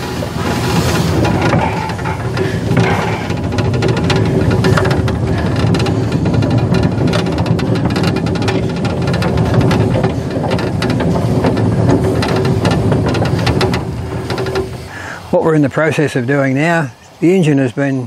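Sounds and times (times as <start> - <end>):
steam locomotive hissing rumble: 0.0 - 16.2
running gear clicks and clanks: 0.0 - 17.0.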